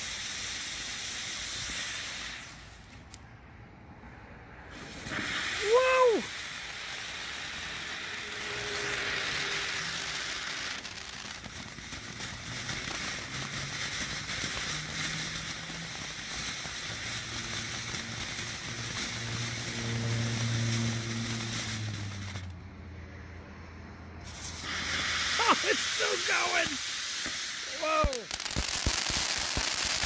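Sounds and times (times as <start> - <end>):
firework fountain hissing sparks: 0.0 - 22.6, 24.2 - 30.0.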